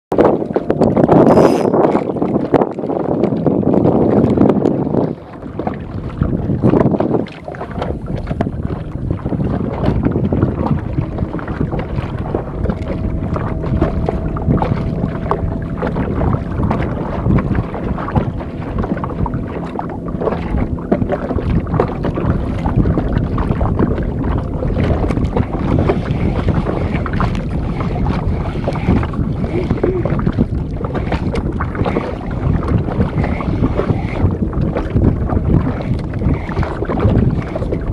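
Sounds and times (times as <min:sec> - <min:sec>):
boat engine running: 0:00.1 - 0:37.9
wind buffeting microphone: 0:00.1 - 0:37.9.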